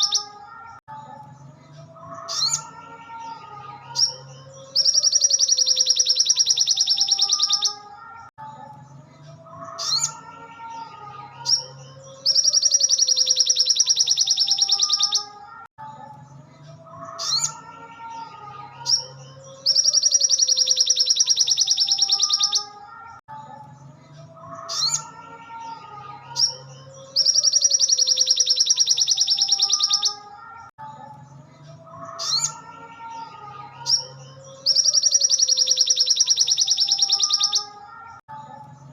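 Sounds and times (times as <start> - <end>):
bird song with trills and chirps: 0.0 - 38.9.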